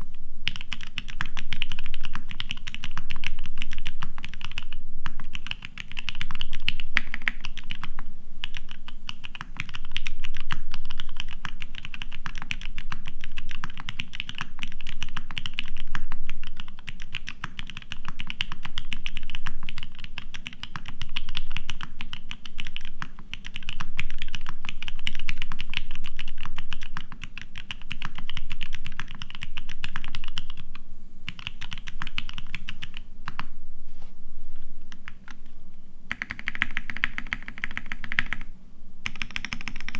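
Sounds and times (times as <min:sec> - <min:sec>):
mechanical keyboard typing: 0:00.5 - 0:30.7, 0:31.3 - 0:33.5, 0:36.1 - 0:39.9.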